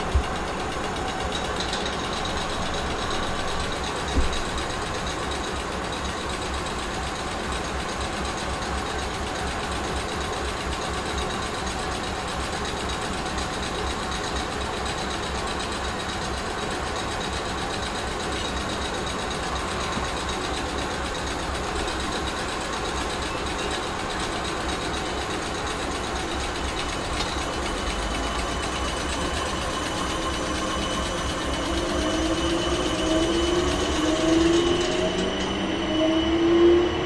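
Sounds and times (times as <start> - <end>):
passenger train clattering: 0.0 - 37.0.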